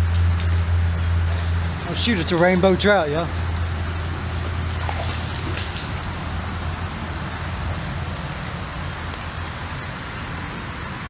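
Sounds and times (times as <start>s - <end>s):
low rumbling noise with hiss: 0.0s - 11.0s.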